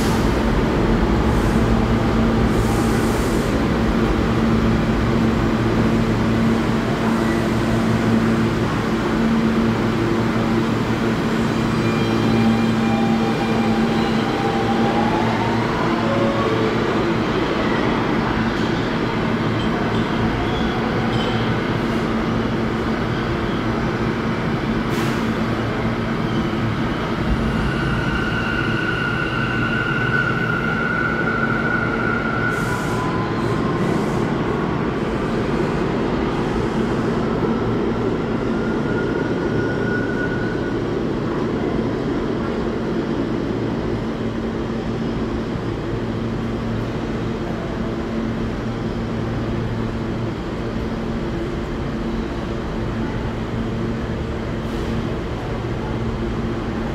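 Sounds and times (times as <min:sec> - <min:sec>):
subway train rumble: 0:00.0 - 0:56.9.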